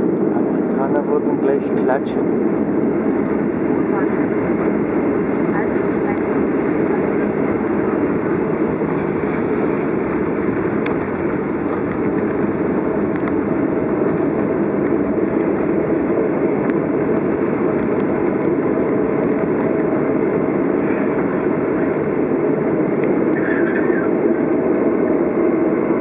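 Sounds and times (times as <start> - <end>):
jet engines rumbling: 0.0 - 26.0
wheels rolling on runway: 0.0 - 26.0.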